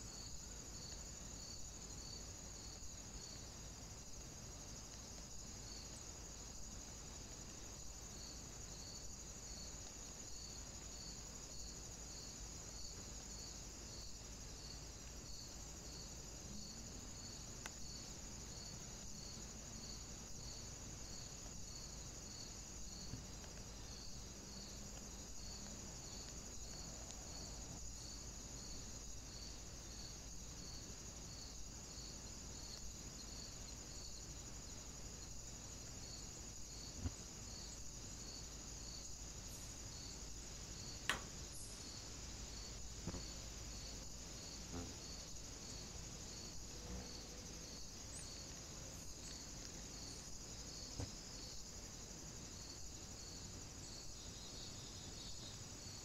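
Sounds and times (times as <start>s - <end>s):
insect chirring: 0.0s - 56.0s.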